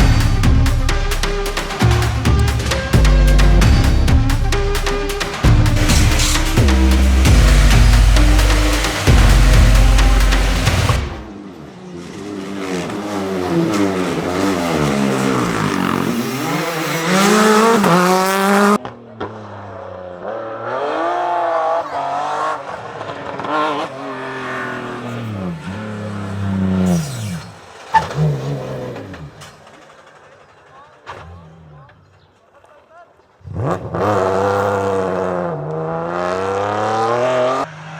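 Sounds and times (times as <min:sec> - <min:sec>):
rally car engines revving: 0:00.0 - 0:32.2, 0:33.4 - 0:37.9.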